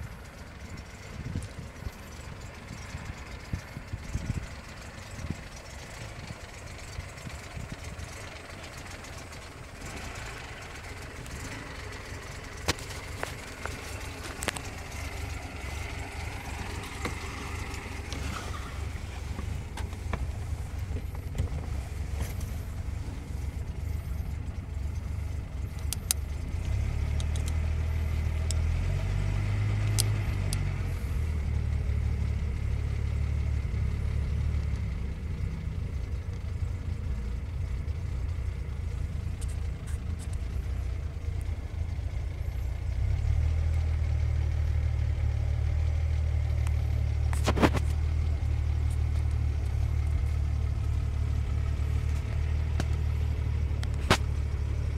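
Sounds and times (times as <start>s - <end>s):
car engine idling: 0.0s - 54.9s.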